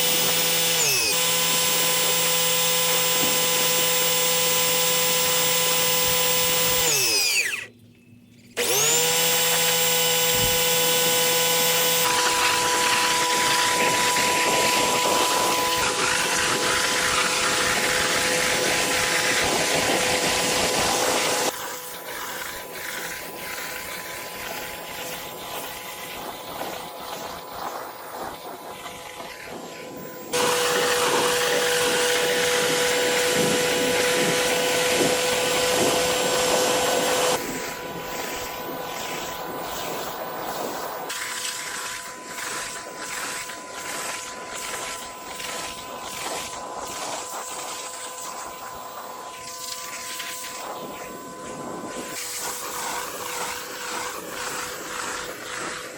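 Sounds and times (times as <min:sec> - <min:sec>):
pressure washer spraying: 0:08.6 - 0:55.9.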